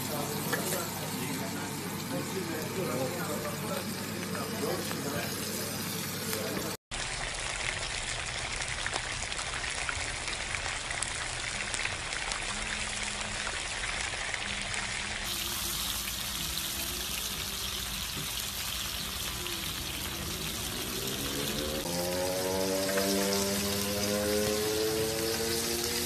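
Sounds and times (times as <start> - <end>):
steak sizzling in pan: 0.0 - 12.5, 13.7 - 26.0.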